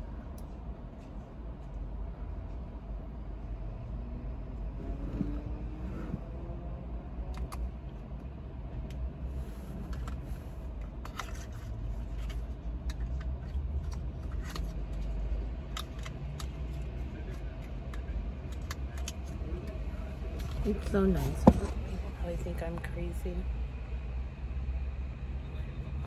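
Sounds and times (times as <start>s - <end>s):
low car cabin rumble: 0.0s - 25.8s.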